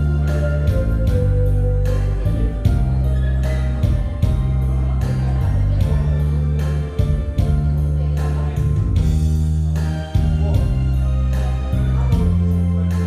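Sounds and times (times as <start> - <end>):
instrumental backing track: 0.0 - 13.0.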